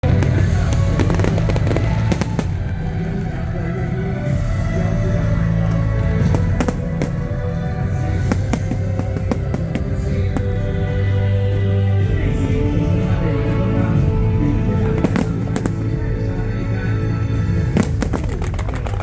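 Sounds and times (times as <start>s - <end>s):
fireworks bangs and crackles: 0.0s - 13.3s, 13.9s - 19.0s
loud music: 0.0s - 18.9s.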